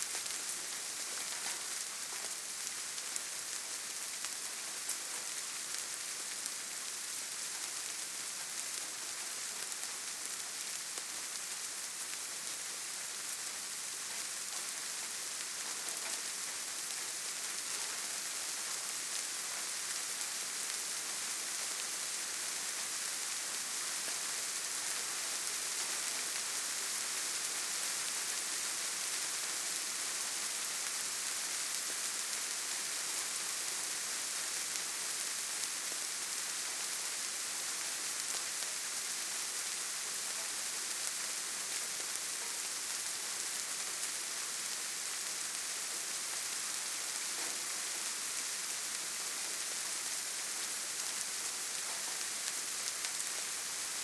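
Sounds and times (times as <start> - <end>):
steady rain in a forest: 0.0 - 54.0.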